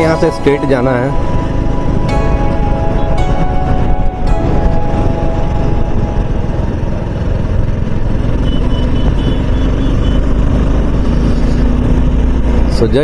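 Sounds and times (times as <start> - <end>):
wind rumble on microphone: 0.0 - 13.0
motorcycle engine: 1.1 - 13.0.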